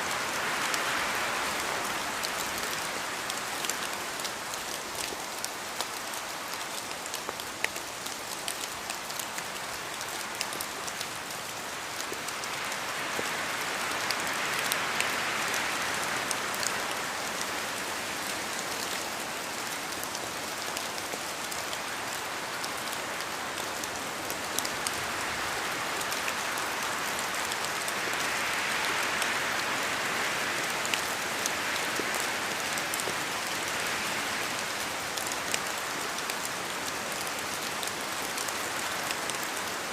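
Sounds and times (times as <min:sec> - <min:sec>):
rain in a forest: 0:00.0 - 0:39.9.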